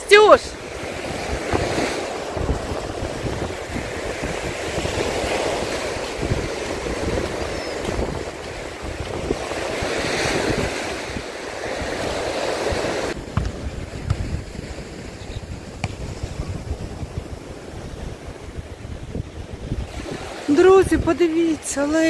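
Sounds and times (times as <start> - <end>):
waves breaking on sandy beach: 0.0 - 22.0
wind buffeting microphone: 0.0 - 22.0.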